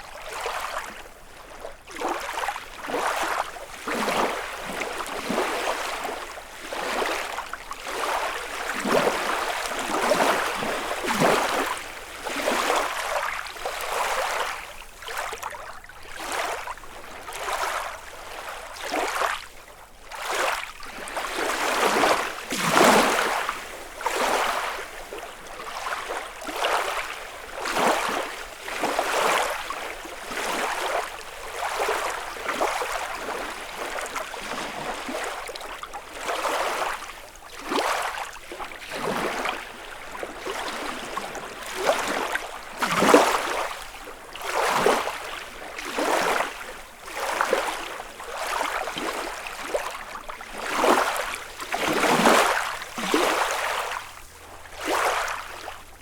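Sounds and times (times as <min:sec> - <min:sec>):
lake waves lapping on shore: 0:00.0 - 0:56.0.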